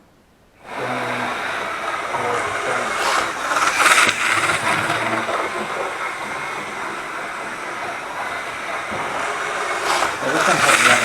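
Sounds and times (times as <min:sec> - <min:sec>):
model train motor whirring: 0:00.6 - 0:11.0
wheels rattling over track: 0:00.6 - 0:11.0.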